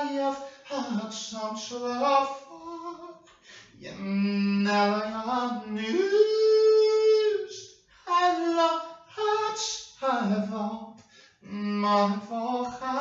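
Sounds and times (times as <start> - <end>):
person singing unaccompanied: 0.0 - 3.2, 3.8 - 10.8, 11.4 - 13.0.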